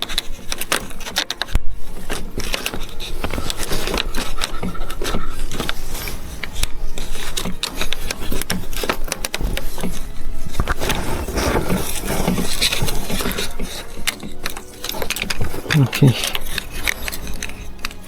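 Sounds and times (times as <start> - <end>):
plastic pipe scraping and clicking: 0.0 - 18.0.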